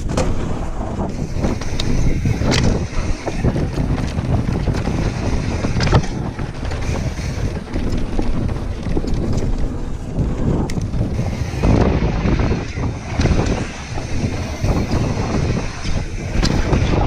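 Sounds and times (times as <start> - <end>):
bike knocking and rattling: 0.0 - 17.0
tyres rumbling on gravel: 0.0 - 17.0
wind buffeting microphone: 0.0 - 17.0.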